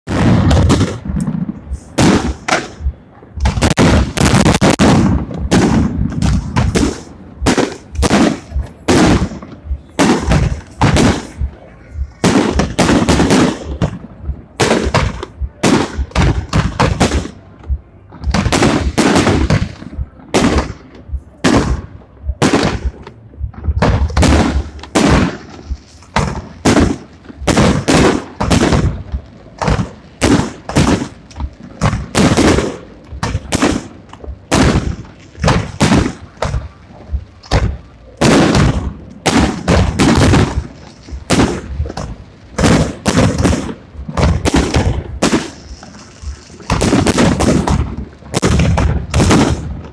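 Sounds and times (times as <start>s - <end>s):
fireworks bangs: 0.1s - 49.9s.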